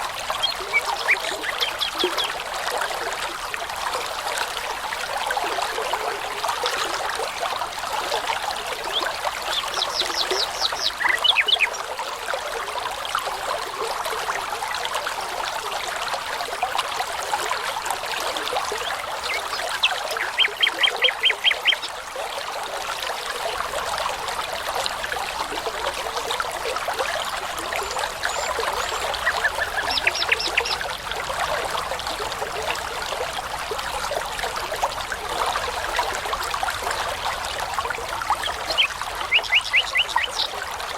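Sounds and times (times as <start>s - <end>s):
brook running: 0.0s - 40.9s.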